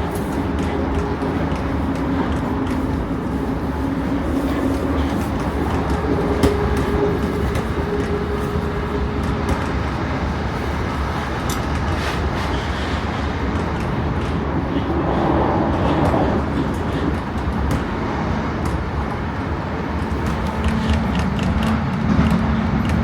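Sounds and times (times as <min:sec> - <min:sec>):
train rumble from inside carriage: 0:00.0 - 0:23.0
wheels clicking over rails: 0:00.0 - 0:23.0.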